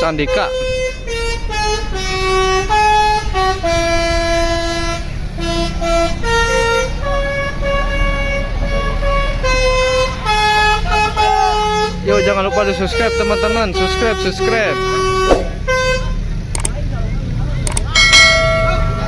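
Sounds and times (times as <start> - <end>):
multi-tone bus air horn tune: 0.0 - 16.5
low engine rumble: 0.0 - 19.0.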